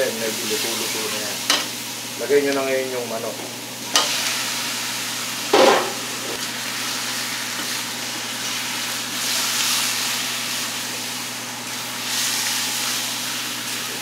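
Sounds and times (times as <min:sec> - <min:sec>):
chicken sizzling in hot oil: 0:00.0 - 0:02.8, 0:03.8 - 0:14.0.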